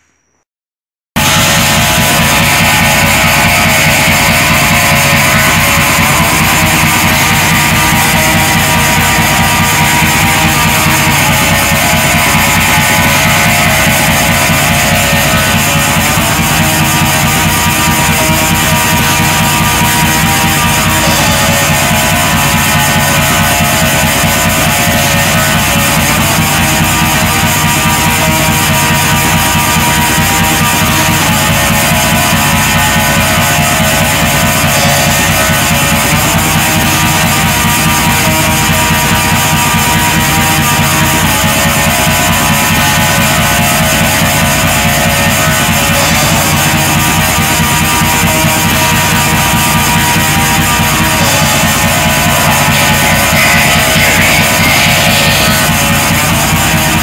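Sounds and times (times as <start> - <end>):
distorted electric guitars: 1.2 - 57.0
drums: 1.2 - 57.0.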